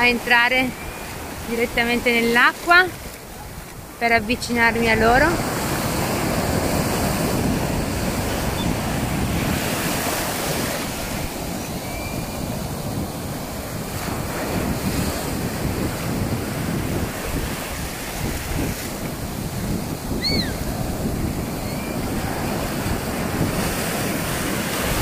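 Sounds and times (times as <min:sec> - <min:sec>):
waves breaking in shallows: 0:00.0 - 0:25.0
wind buffeting microphone: 0:00.0 - 0:25.0.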